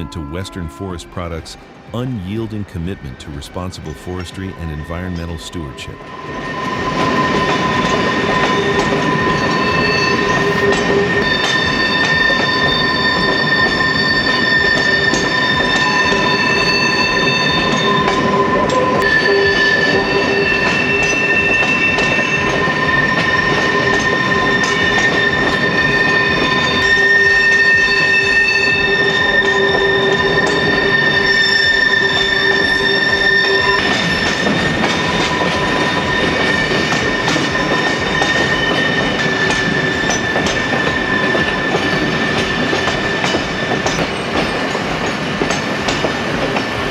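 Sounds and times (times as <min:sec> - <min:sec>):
train cars rumbling: 0:00.0 - 0:46.9
train wheels squealing: 0:00.0 - 0:46.9.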